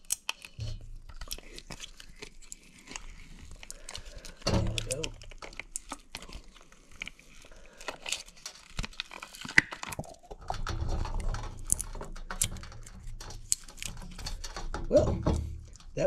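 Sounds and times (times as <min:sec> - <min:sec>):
silicone mold clicks and crackles: 0:00.0 - 0:16.0.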